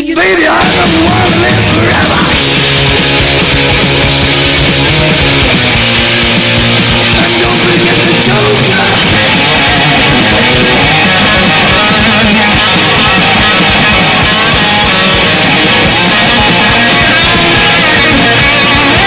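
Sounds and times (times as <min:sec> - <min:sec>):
hard rock music with electric guitar: 0:00.4 - 0:19.0.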